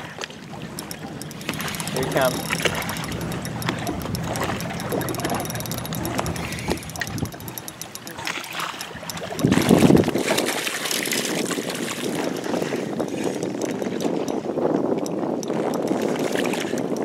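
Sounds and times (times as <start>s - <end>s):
lake water lapping: 0.0s - 17.0s
wind on microphone: 0.0s - 17.0s.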